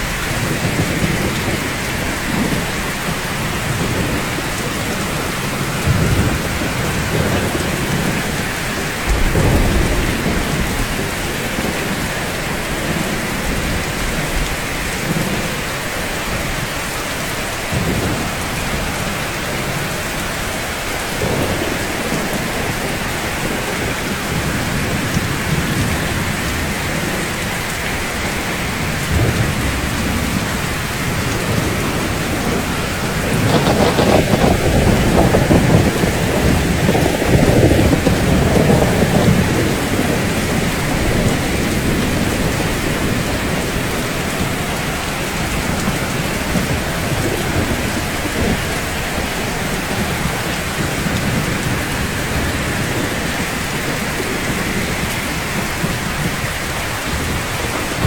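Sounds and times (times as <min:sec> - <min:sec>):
rain on rooftops: 0:00.0 - 0:58.0
rumble of thunder: 0:00.0 - 0:58.0.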